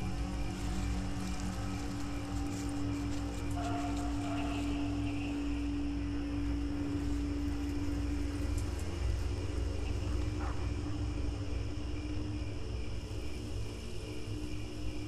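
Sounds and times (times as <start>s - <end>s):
faint high hum: 0.0s - 15.0s
low wind rumble: 0.0s - 15.0s
sustained droning tone: 0.0s - 15.0s.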